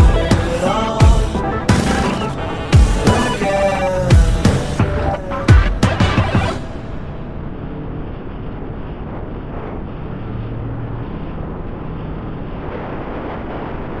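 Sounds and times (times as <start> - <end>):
road and wind noise: 0.0 - 14.0.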